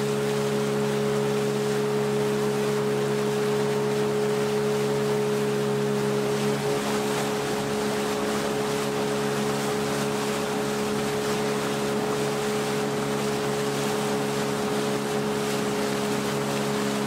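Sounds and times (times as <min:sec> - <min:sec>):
outboard motor droning: 0:00.0 - 0:17.0
water splashing along hull: 0:00.0 - 0:17.0.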